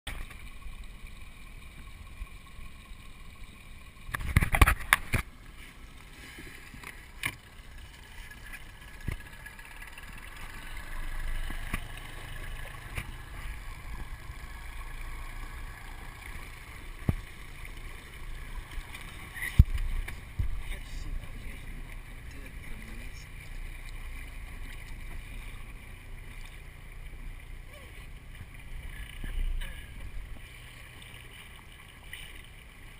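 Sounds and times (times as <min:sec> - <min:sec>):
water lapping against boat hull: 0:00.1 - 0:32.9.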